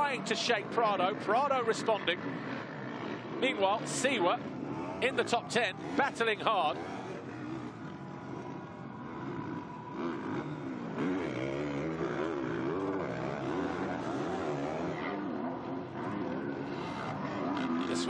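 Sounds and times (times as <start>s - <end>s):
motorbike engines revving: 0.0s - 18.0s.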